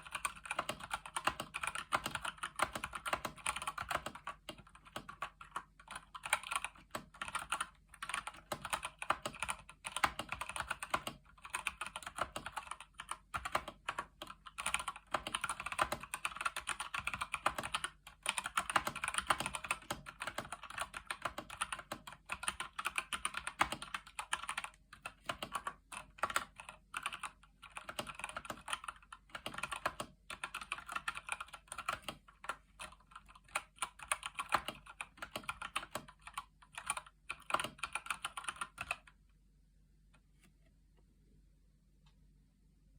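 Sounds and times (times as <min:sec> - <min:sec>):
mechanical keyboard typing: 0:00.0 - 0:39.2.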